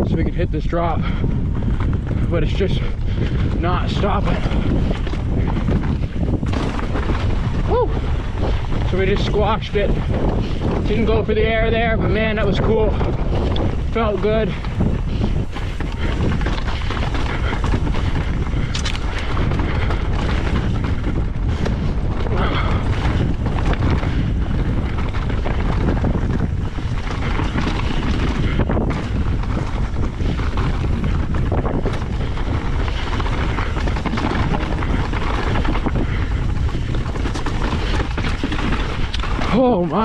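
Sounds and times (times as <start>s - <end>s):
wind buffeting microphone: 0.0s - 40.0s
bike clattering on rocky trail: 0.1s - 40.0s.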